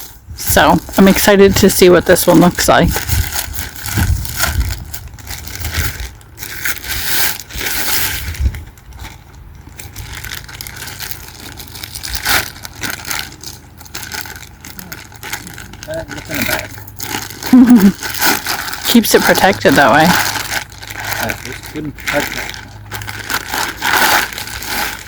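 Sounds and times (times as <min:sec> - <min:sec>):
packaging crinkling and rustling: 0:00.0 - 0:25.0
packaging tearing: 0:00.0 - 0:25.0.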